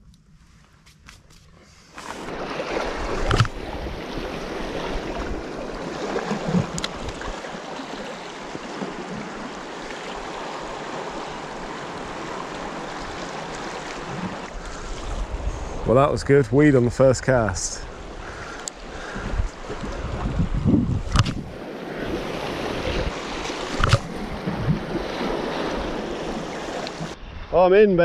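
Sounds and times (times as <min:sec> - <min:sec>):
wind: 0:00.0 - 0:28.0
sea waves on shore: 0:01.5 - 0:28.0.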